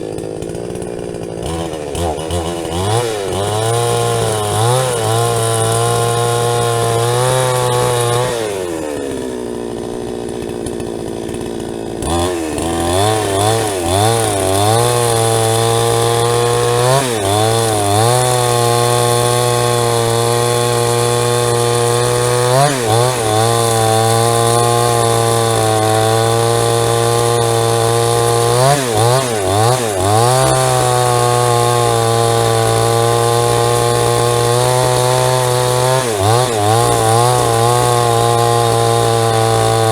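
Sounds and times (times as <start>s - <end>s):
chainsaw sawing a log: 0.0s - 39.9s.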